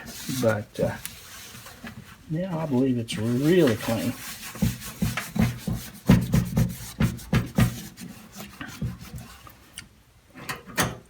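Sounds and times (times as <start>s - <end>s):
scrubbing on sheet metal: 0.0s - 9.7s.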